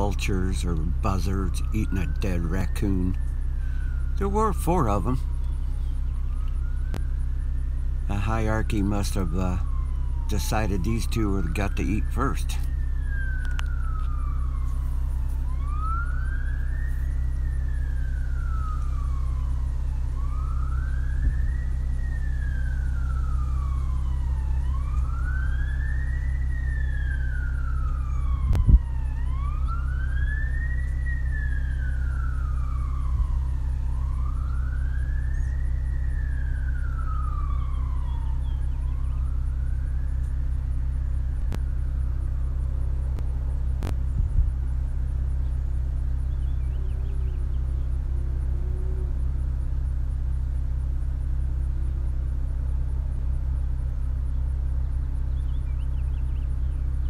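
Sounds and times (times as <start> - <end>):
distant emergency siren wailing: 0.0 - 57.0
steady low hum: 0.0 - 57.0.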